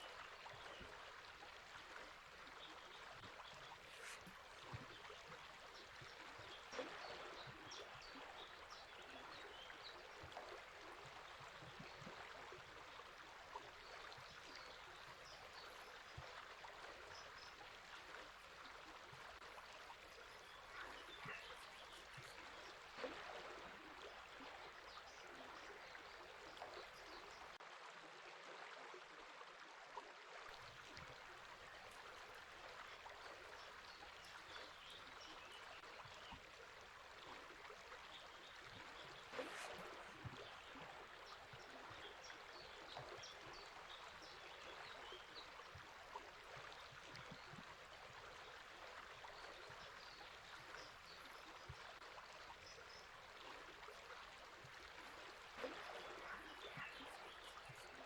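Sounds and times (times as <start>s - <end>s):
water gurgles: 0.0s - 27.6s, 30.1s - 58.0s
river water babbling: 0.0s - 29.4s, 30.1s - 58.0s.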